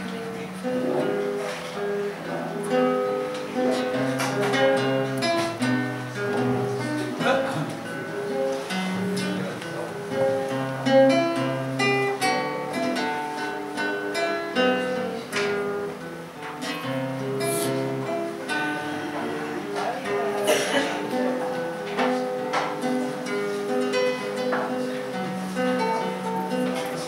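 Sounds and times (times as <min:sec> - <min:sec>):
classical guitar fingerstyle: 0:00.0 - 0:27.0.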